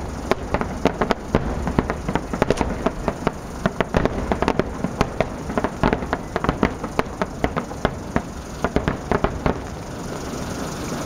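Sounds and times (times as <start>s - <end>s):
low rumble: 0.0s - 9.8s
firework shells bursting: 0.0s - 11.0s.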